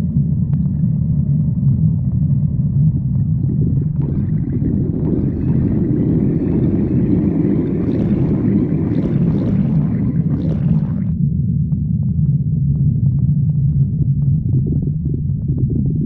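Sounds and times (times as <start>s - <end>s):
stomach growling rumble: 0.0s - 16.0s
stomach gurgle with crackling pops: 0.0s - 16.0s.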